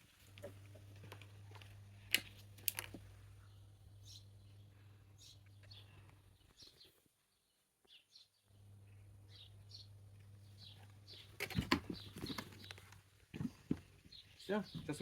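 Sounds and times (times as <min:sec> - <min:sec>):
steady low hum: 0:00.0 - 0:06.6, 0:08.4 - 0:14.9
small birds chirping: 0:00.3 - 0:15.0.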